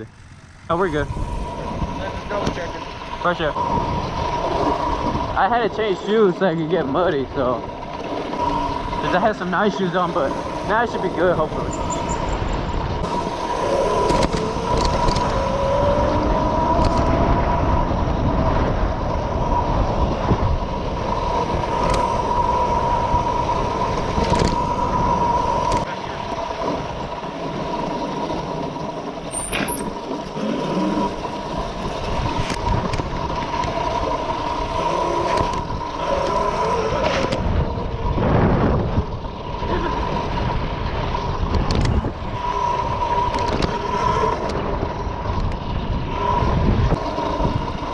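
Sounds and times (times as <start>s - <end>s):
mini bike engine running: 0.0s - 47.9s
wind buffeting microphone: 0.0s - 47.9s.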